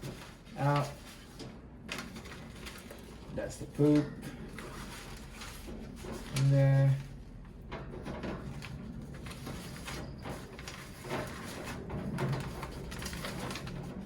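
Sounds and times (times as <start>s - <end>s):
paper liner and cage tray rustling: 0.0s - 14.0s.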